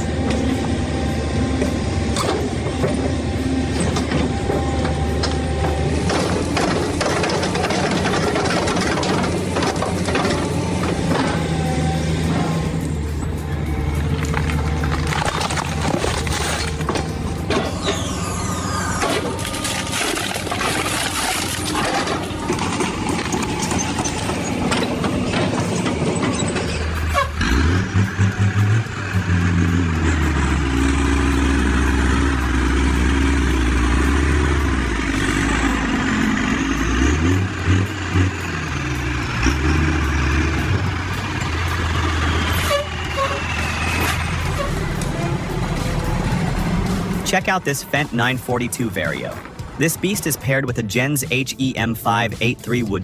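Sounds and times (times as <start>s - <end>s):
heavy machine engine running: 0.0s - 53.0s.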